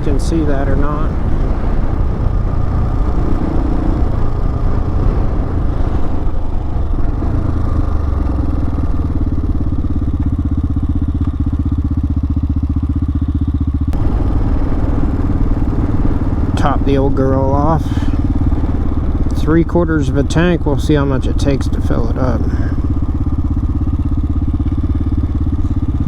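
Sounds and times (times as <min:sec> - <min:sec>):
wind noise: 0:00.0 - 0:11.3, 0:13.9 - 0:24.6
motorcycle engine thumping: 0:00.0 - 0:26.0.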